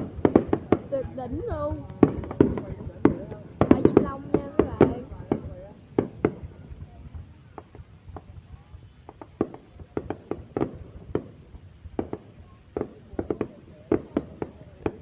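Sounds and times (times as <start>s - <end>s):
distant fireworks bangs: 0.0s - 15.0s.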